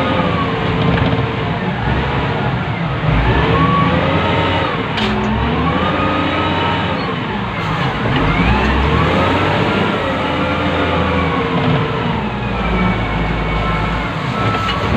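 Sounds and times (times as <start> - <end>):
diesel engine revving: 0.0 - 14.9.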